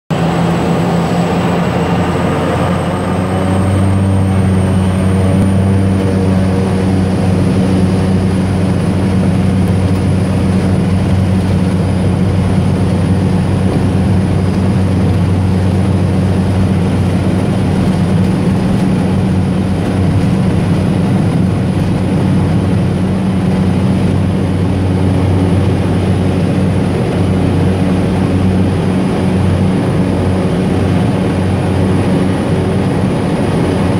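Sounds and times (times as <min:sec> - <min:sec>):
aircraft engine and propeller: 0:00.1 - 0:33.9.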